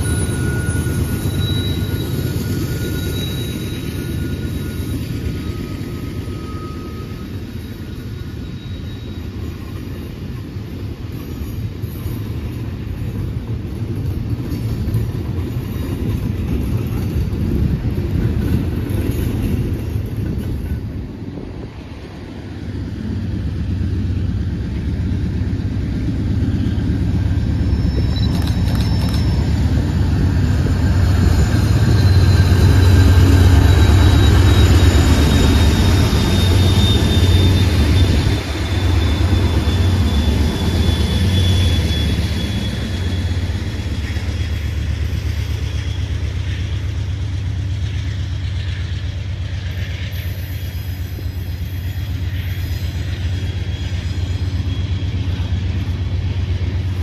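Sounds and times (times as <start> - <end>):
high wheel squeal: 0.0 - 57.0
train rumbling: 0.0 - 57.0.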